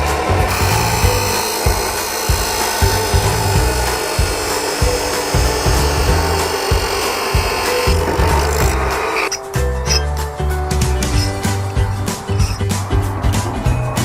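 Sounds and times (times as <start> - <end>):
music with bass beat: 0.0 - 14.0
tool rasping on metal: 0.2 - 10.0, 11.0 - 12.8.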